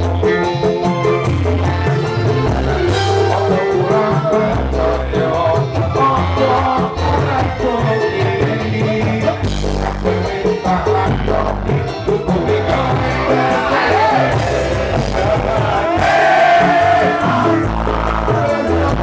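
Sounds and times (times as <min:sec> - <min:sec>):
live band music: 0:00.0 - 0:19.0
man singing into a microphone: 0:00.0 - 0:19.0.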